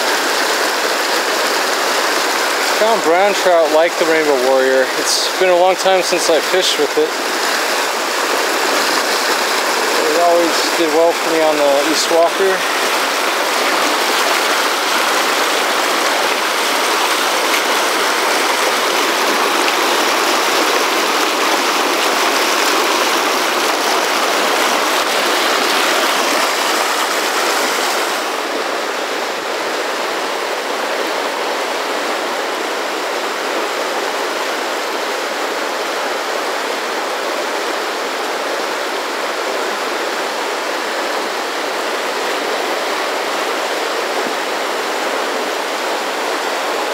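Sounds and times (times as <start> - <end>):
river rushing over boulders: 0.0 - 46.9.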